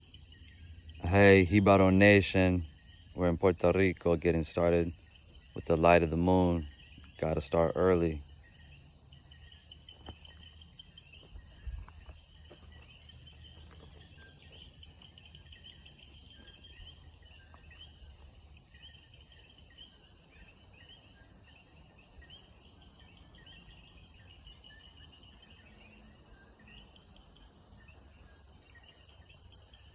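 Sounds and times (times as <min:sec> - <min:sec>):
frogs chirping: 0:00.0 - 0:29.9.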